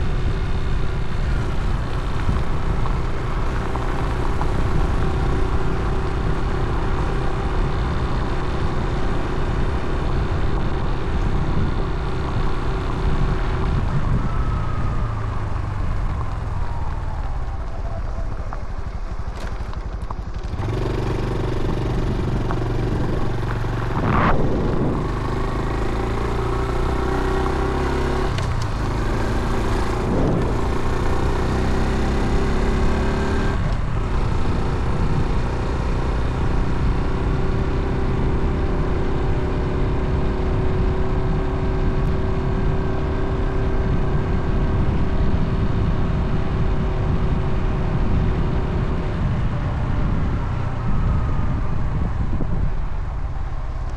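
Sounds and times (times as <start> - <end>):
wind on microphone: 0.0 - 18.8, 20.4 - 53.9
motorcycle engine running: 0.0 - 53.9.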